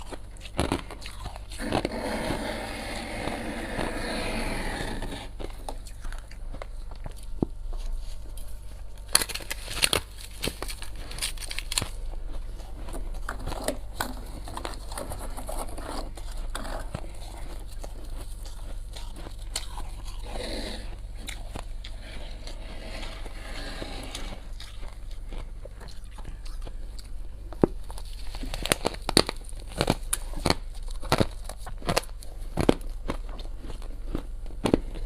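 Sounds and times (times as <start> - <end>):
ice being chewed: 0.0 - 35.0.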